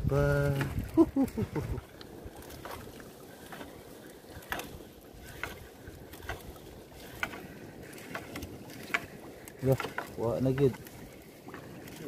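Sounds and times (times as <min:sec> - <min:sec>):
light knocks or splashes: 0:00.0 - 0:12.0
water washing against hull: 0:00.0 - 0:12.0.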